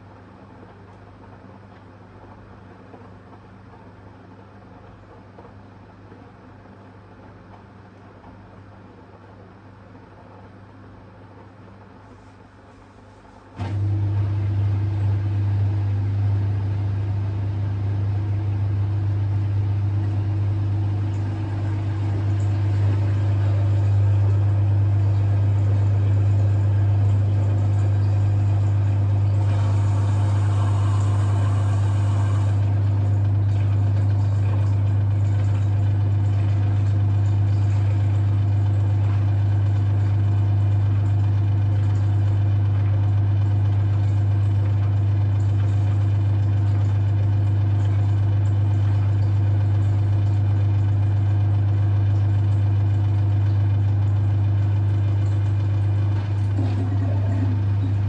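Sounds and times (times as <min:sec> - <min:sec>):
drain pump humming: 0:10.5 - 0:58.0.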